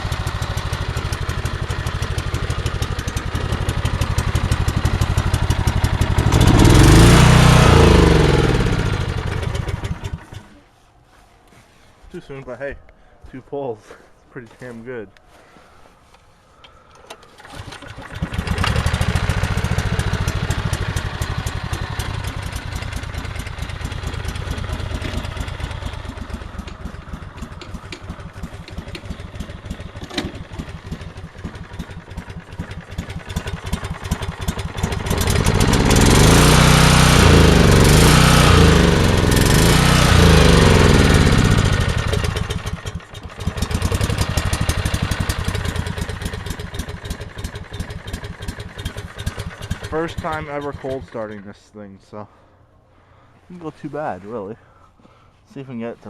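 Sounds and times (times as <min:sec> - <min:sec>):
lawn tractor engine running: 0:00.0 - 0:10.6, 0:16.9 - 0:51.5.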